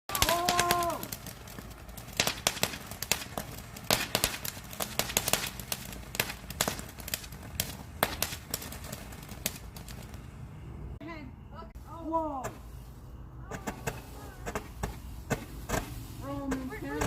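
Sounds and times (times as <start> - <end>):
firecrackers popping and cracking: 0.1 - 10.3, 13.5 - 17.0.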